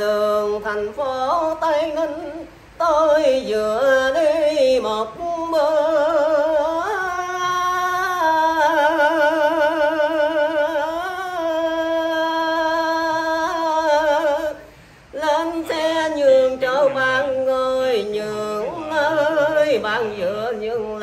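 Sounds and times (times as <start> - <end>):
elderly man singing unaccompanied: 0.0 - 21.0.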